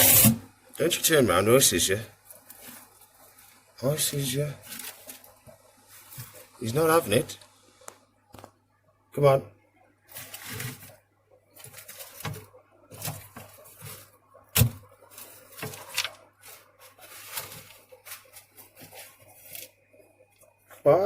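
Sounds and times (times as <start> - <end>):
hands rustling in lizard tank: 1.8 - 8.6, 9.8 - 21.0.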